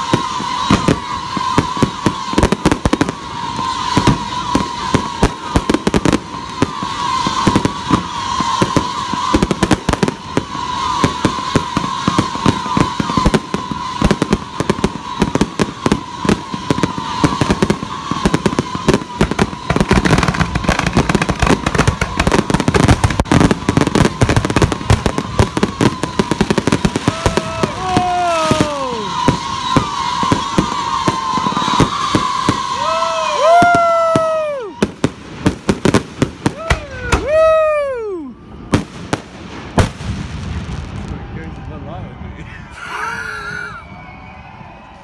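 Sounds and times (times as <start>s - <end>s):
fireworks bangs and crackles: 0.0s - 45.0s
fireworks high whistle: 0.0s - 45.0s.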